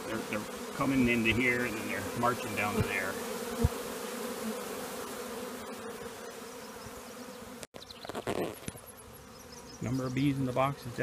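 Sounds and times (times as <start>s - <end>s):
honeybee swarm buzzing: 0.0s - 11.0s.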